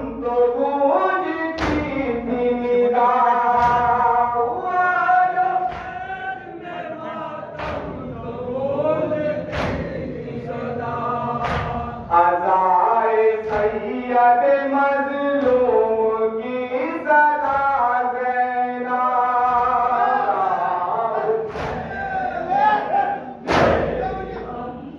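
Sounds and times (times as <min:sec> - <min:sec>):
men chanting through a microphone: 0:00.0 - 0:24.9.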